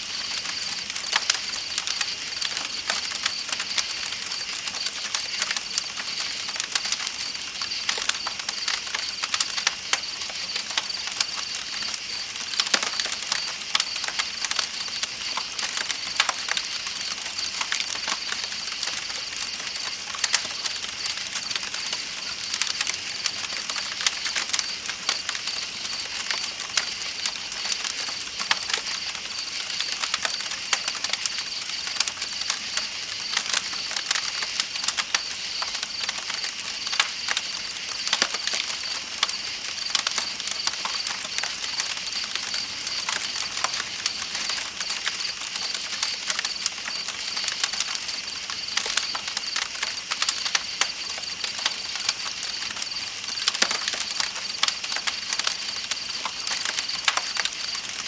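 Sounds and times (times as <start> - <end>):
night insects trilling: 0.0 - 58.0
campfire crackling and popping: 0.1 - 58.0.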